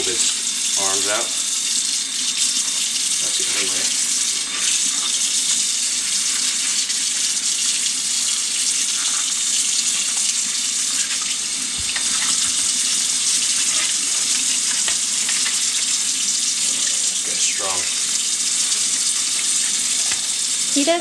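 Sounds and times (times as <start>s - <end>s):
faucet water splashing into sink: 0.0s - 20.9s.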